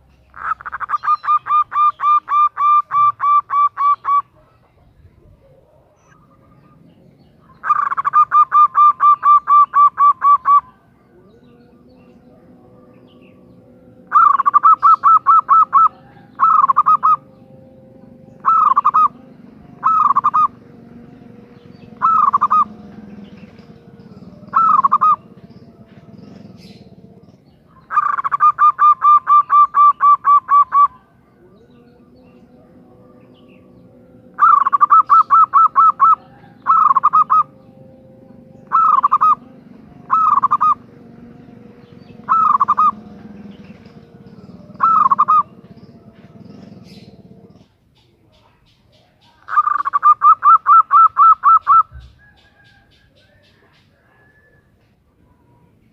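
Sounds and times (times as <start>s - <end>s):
dove calling in stuttering bursts: 0.0s - 4.6s, 5.8s - 47.9s, 48.6s - 55.0s
faint steady hum: 1.6s - 48.0s.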